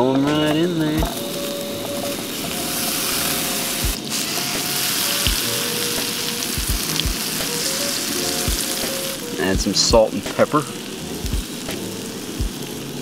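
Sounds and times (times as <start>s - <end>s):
mushrooms sizzling in butter: 0.1s - 13.0s.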